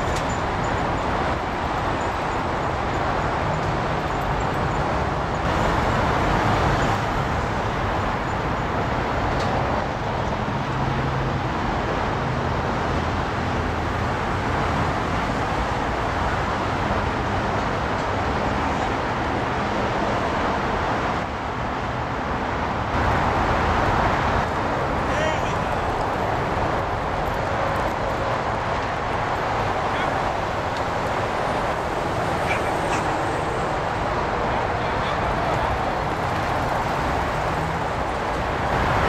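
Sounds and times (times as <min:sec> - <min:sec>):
freeway traffic rush: 0:00.0 - 0:39.0.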